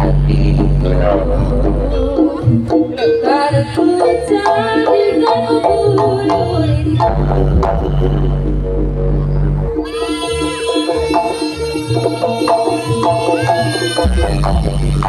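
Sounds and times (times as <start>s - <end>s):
melodic lead line: 0.0s - 15.0s.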